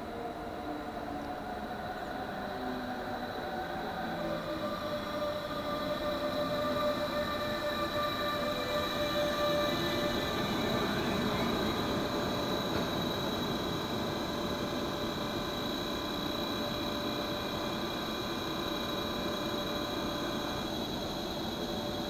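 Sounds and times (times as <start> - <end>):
electric locomotive humming: 0.0 - 22.0.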